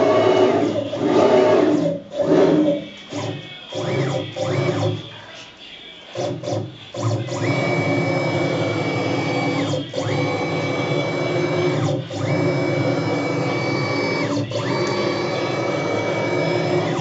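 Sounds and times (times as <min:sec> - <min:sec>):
cnc router axis whine: 0:00.0 - 0:05.0, 0:06.2 - 0:17.0.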